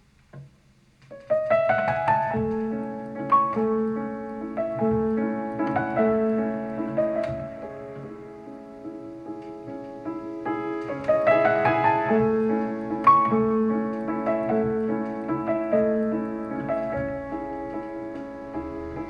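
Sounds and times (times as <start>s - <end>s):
solo piano music through speakers: 0.0s - 19.0s.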